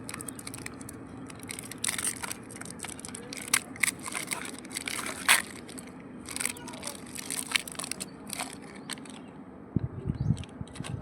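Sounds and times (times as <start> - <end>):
wrapper crinkling and tearing: 0.0 - 9.2
low steady hum: 0.0 - 11.0.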